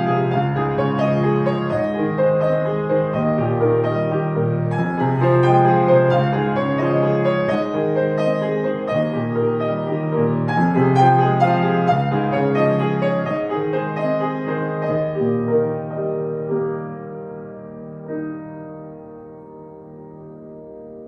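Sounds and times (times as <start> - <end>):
grand piano playing: 0.0 - 21.0.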